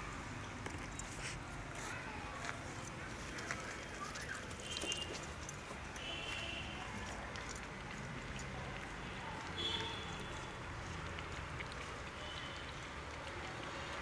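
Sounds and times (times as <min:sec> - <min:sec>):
puppies chewing and lapping: 0:00.0 - 0:14.0.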